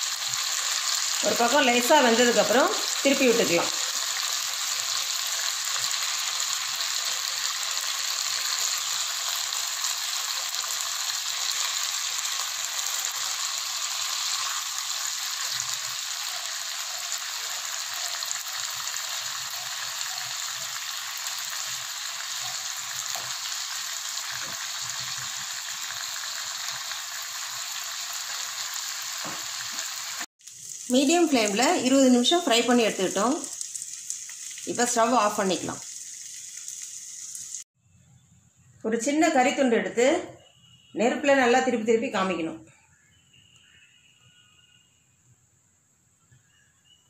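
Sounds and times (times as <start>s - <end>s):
chicken sizzling in a pan: 0.0s - 37.7s.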